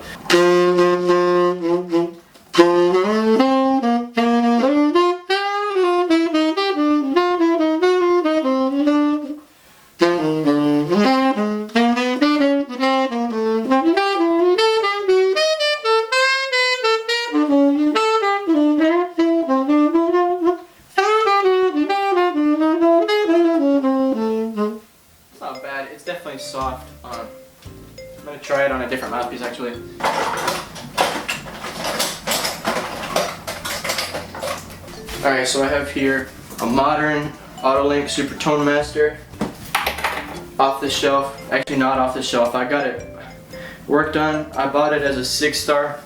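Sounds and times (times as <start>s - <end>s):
tenor saxophone jazz runs: 0.0s - 46.0s.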